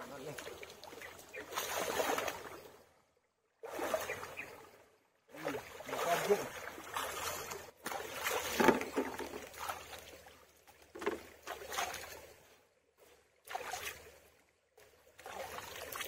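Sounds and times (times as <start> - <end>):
stream water sloshing and splashing: 0.0 - 16.0.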